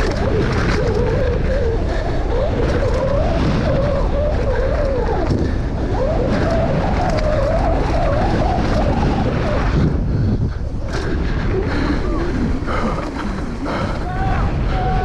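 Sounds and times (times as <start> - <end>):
bike clattering over bumps: 0.0 - 15.0
wind buffeting microphone: 0.0 - 15.0.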